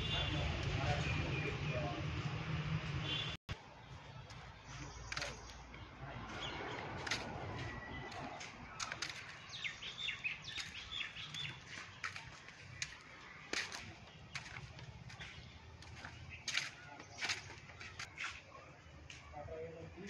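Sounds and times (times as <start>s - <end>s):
birds chirping: 0.0s - 20.0s
faint outdoor background noise: 0.0s - 20.0s.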